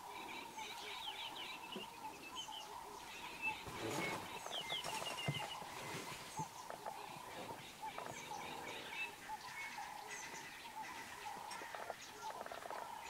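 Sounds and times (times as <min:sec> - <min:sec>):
wild dogs twittering: 0:00.0 - 0:13.0.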